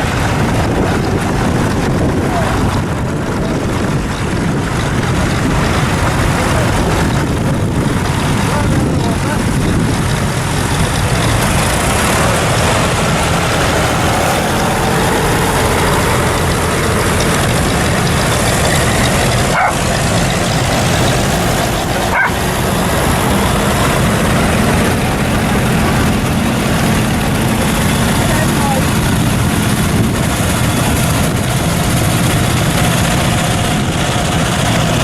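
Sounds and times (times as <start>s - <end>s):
outdoor crowd noise: 0.0s - 35.0s
tractor engines running: 0.0s - 35.0s.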